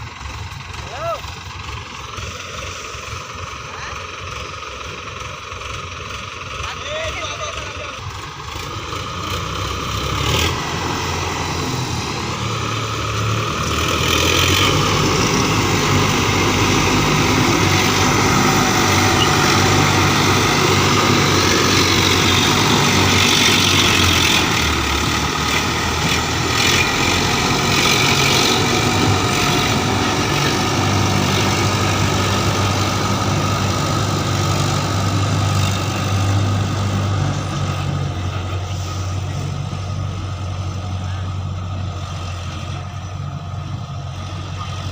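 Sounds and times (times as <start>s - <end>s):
diesel farm machinery engine running: 0.0s - 44.9s.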